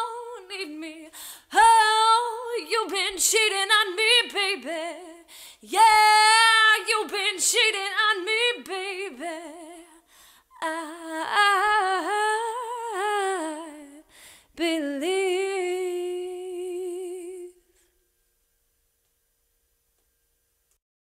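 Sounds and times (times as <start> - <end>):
woman singing with vibrato: 0.0 - 17.7.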